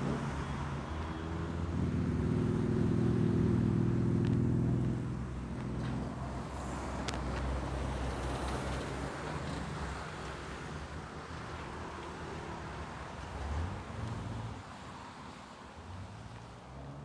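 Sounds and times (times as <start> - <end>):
passing vehicle engine: 0.0 - 15.2.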